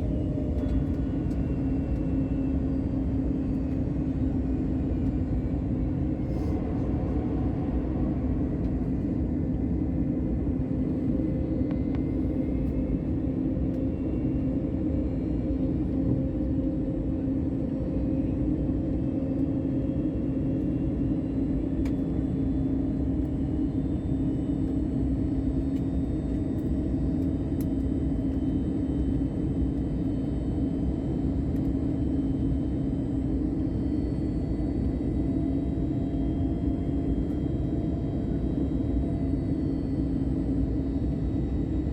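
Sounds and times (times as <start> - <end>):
airliner cabin engine drone: 0.0 - 41.9
constant low hum: 0.0 - 41.9.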